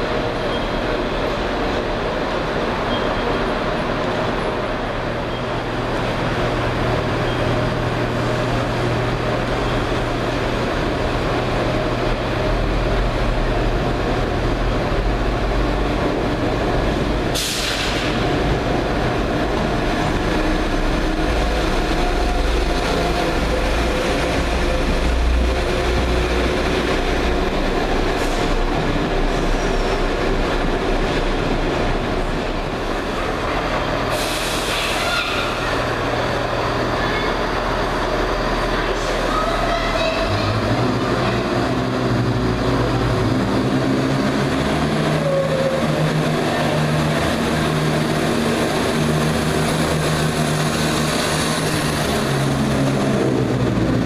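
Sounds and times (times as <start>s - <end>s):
diesel train engine hum: 0.0s - 54.0s.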